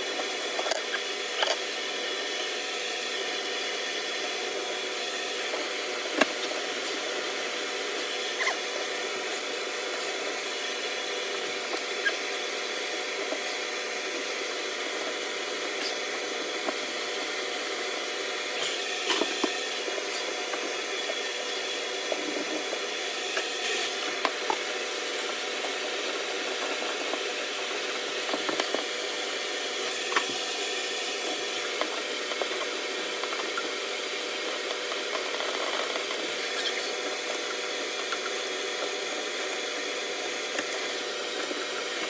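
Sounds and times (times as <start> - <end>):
machine hum and hiss: 0.0 - 42.0.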